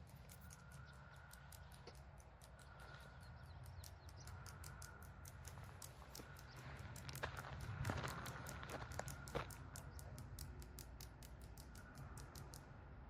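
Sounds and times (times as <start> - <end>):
quick high ticking: 0.0 - 12.7
low steady rumble: 0.0 - 13.0.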